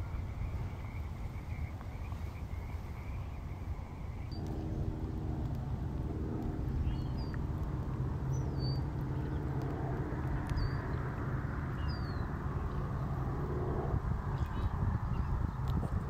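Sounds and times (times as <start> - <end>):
steady low rumble with hiss: 0.0 - 16.0.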